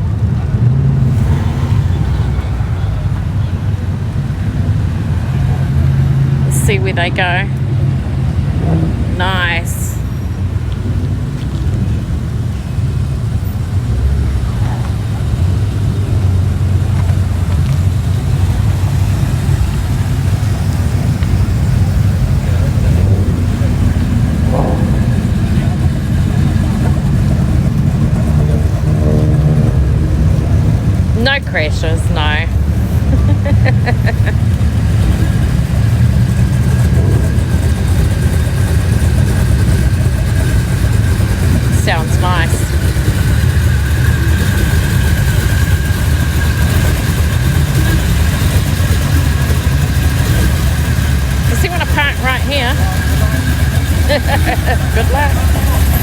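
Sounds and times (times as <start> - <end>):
car engines low rumble: 0.0 - 56.0.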